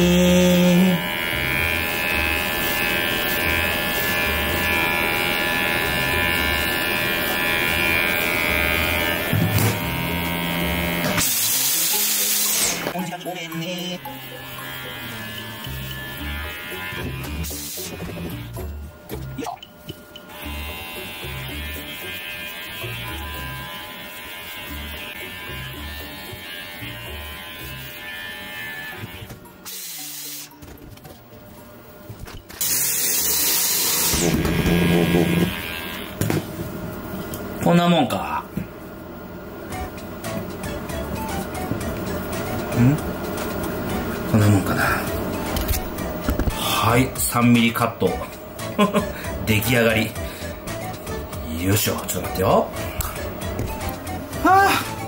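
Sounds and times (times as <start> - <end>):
electric hair clipper humming: 0.0 - 30.6, 32.5 - 37.6, 38.6 - 55.0.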